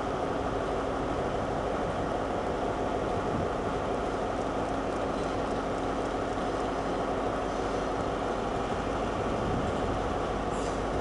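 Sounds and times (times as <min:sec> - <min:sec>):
trains rumbling and humming: 0:00.0 - 0:11.0.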